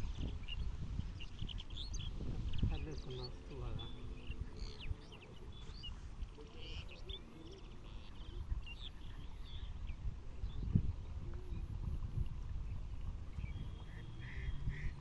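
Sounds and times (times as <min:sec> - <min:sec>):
small birds chirping: 0:00.0 - 0:11.8, 0:12.6 - 0:15.0.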